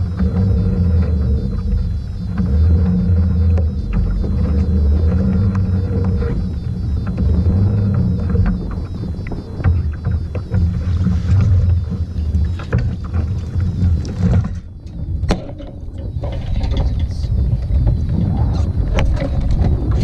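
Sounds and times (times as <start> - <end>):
knocks and clicks: 0.0 - 20.0
water moving around kayak: 0.0 - 20.0
wind rumbling on microphone: 0.0 - 20.0.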